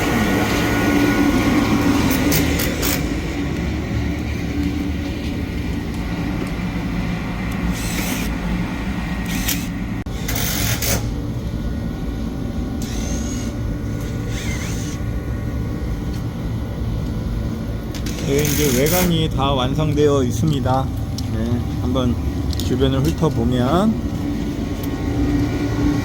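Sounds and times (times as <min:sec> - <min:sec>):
supply fan droning: 0:00.0 - 0:26.0.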